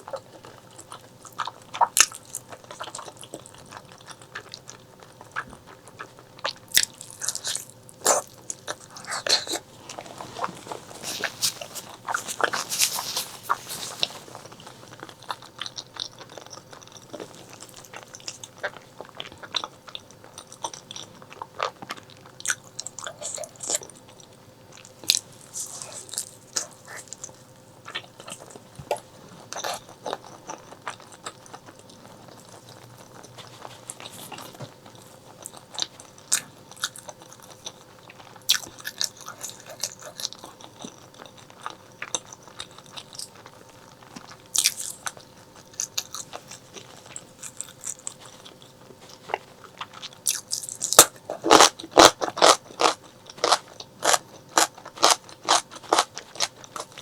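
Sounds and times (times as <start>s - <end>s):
chewing and biting meat: 0.0s - 57.0s.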